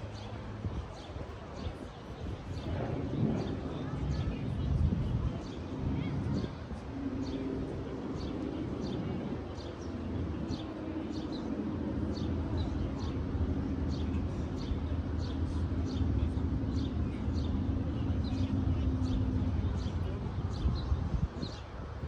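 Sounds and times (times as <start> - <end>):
traffic drone: 0.0 - 22.0.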